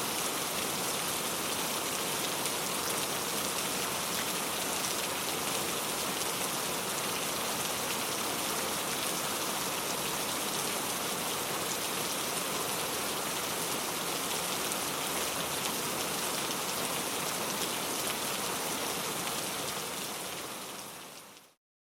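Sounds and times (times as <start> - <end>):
heavy rain: 0.0 - 21.6.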